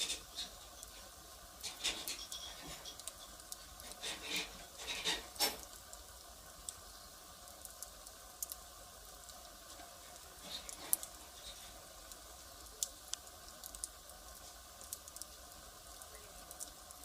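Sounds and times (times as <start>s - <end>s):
faint hiss: 0.0s - 17.0s
firewood crackling and popping: 0.0s - 17.0s.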